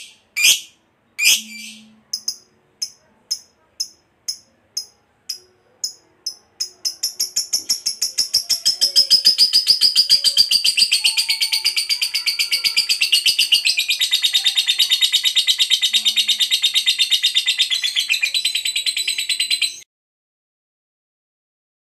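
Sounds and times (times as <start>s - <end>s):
lovebird chattering trill: 0.0s - 19.8s.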